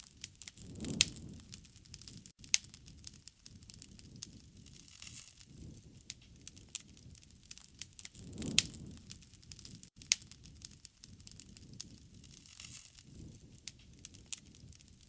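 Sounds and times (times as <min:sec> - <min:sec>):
wood fire crackling: 0:00.0 - 0:15.0
sharp pops of fire: 0:00.1 - 0:15.0.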